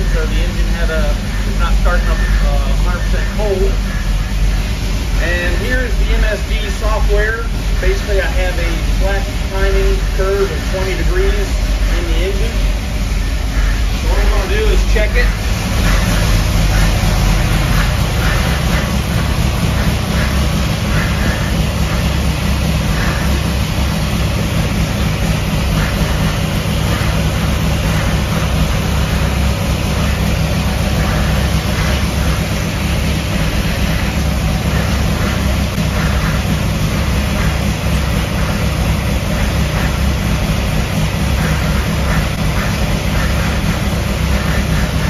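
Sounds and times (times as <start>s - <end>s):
engine running at fast idle: 0.0s - 45.0s.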